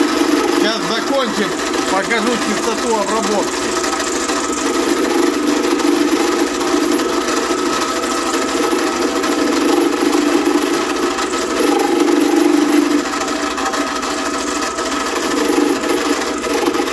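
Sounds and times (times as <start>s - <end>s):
drill press motor hum: 0.0s - 16.9s
end mill cutting metal chatter: 0.0s - 16.9s.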